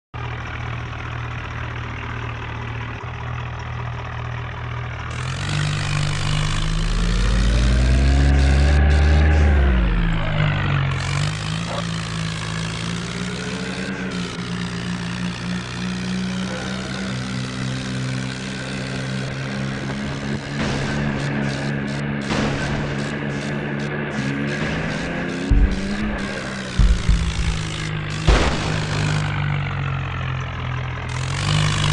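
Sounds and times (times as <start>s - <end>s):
tractor diesel engine revving: 0.2s - 31.9s.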